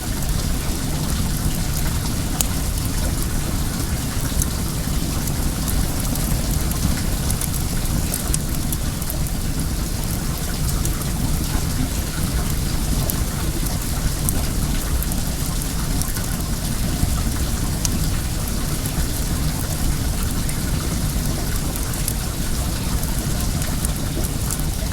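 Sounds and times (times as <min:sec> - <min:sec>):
flowing water: 0:00.0 - 0:24.9
bonfire crackling and popping: 0:00.1 - 0:24.9.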